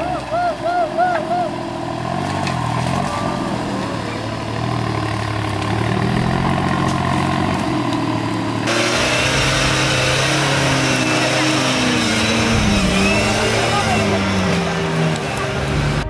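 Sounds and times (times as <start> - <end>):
off-road vehicle engine under load: 0.0 - 16.0.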